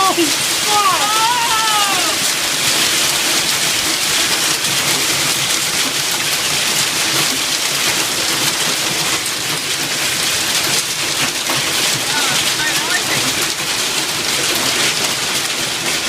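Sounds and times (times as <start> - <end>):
hail clattering: 0.0 - 16.0.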